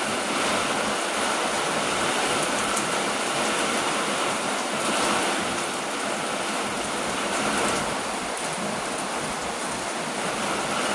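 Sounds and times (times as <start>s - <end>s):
heavy rain: 0.0s - 10.9s.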